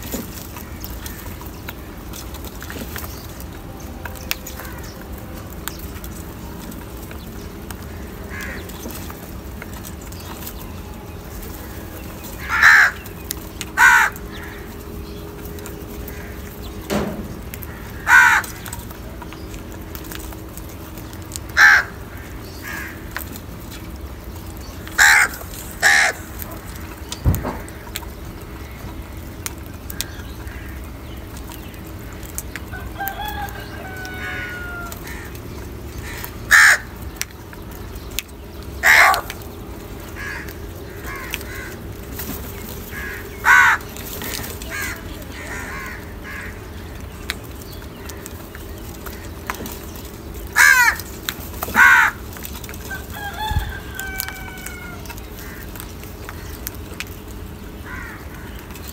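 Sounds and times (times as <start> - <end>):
crows cawing: 0.0 - 3.5, 4.1 - 23.8, 24.6 - 58.9.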